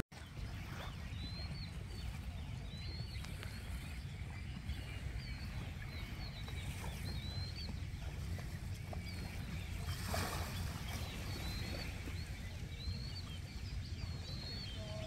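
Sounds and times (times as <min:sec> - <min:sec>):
small birds chirping: 0:00.2 - 0:15.0
small wave washing: 0:00.2 - 0:15.0
steady low rumble: 0:00.2 - 0:15.0.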